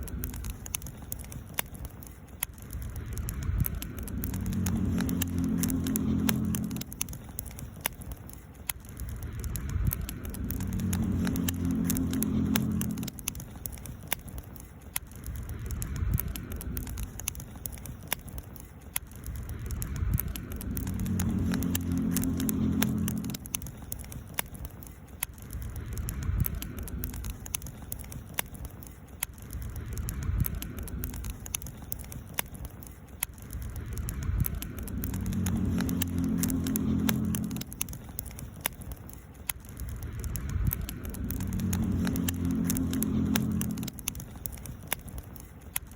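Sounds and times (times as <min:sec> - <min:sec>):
low hum: 0:00.0 - 0:18.4, 0:19.1 - 0:28.8, 0:29.4 - 0:45.5
campfire crackling and popping: 0:00.0 - 0:45.9.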